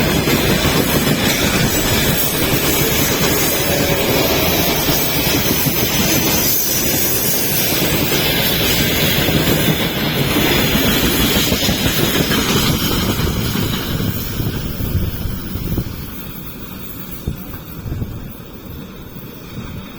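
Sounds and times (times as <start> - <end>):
train wheels rumbling on track: 0.0 - 19.9.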